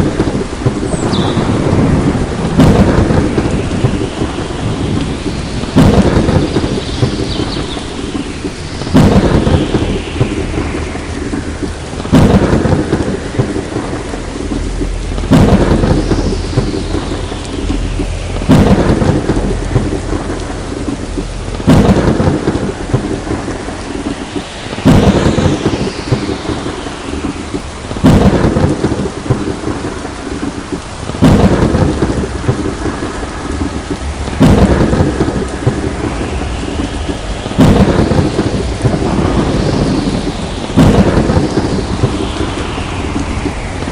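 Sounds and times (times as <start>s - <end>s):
heavy rain: 0.0s - 43.9s
thunder cracking and rumbling: 0.0s - 43.9s.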